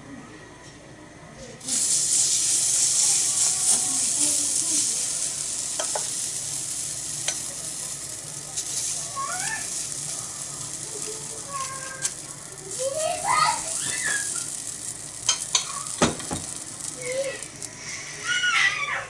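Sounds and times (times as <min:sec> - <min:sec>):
oil spattering crackles: 0:01.6 - 0:18.9
batter sizzling on a griddle: 0:01.6 - 0:19.0.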